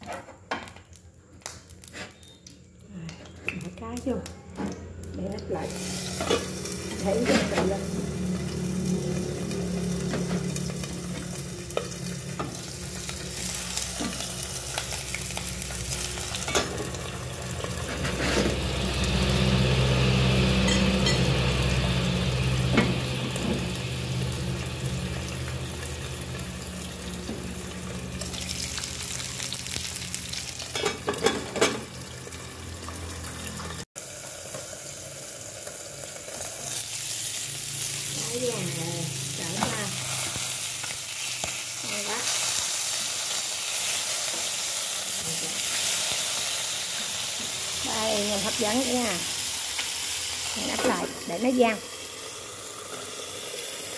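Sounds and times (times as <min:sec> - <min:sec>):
fish sizzling in oil: 0:04.9 - 0:53.9.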